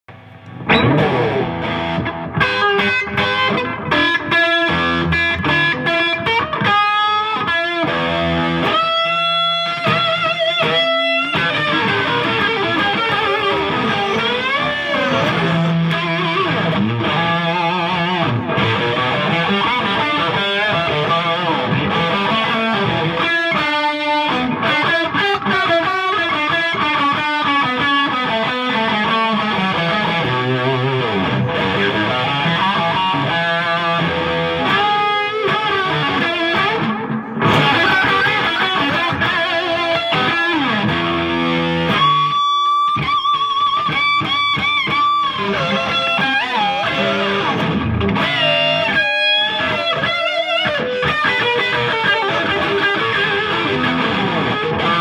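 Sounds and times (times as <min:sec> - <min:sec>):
electric guitar playing: 0:00.1 - 0:55.0.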